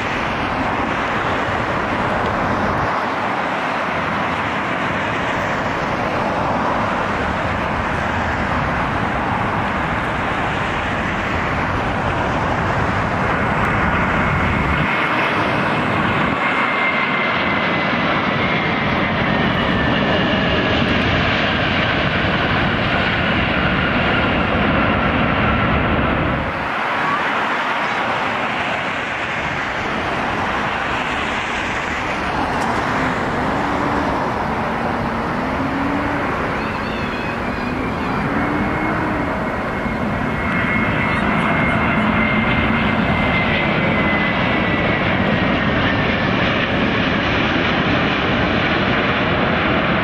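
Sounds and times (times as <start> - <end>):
jet engine whine falling: 0.0 - 50.0
jet engines roaring: 0.0 - 50.0.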